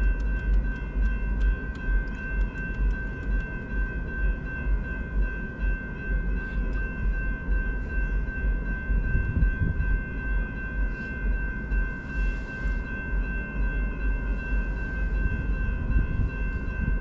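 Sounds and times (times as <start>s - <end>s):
crossing warning bell ringing: 0.0s - 17.0s.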